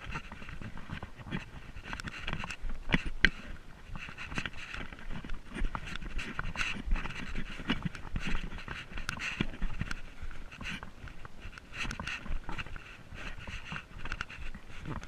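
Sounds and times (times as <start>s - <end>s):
footsteps on path: 0.0s - 15.0s.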